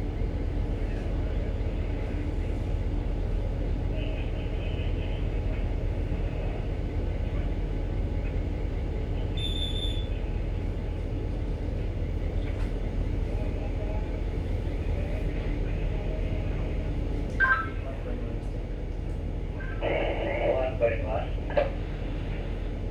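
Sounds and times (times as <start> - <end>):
ship machinery hum: 0.0 - 22.9.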